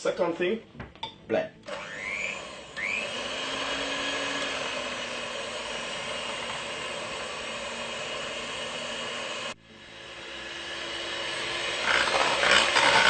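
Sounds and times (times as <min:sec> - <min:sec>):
electric blender running: 0:01.6 - 0:13.0.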